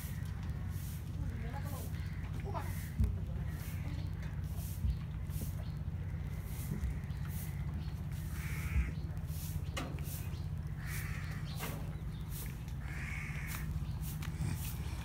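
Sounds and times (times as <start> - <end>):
harsh bird calls: 0.0 - 15.0
steady low rumble: 0.0 - 15.0.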